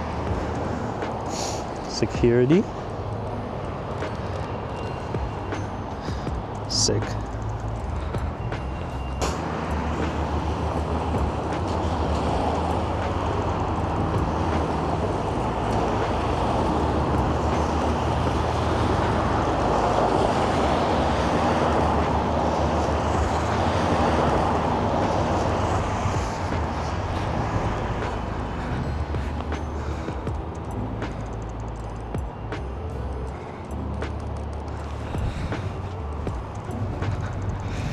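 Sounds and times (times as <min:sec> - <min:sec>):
street traffic with tyre noise: 0:00.0 - 0:37.9.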